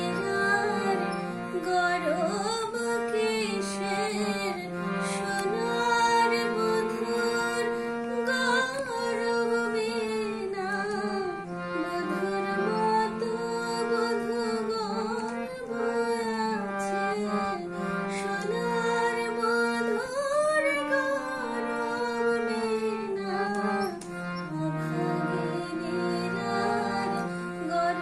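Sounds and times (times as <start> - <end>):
instrumental accompaniment: 0.0 - 28.0
woman singing devotional song: 0.0 - 28.0.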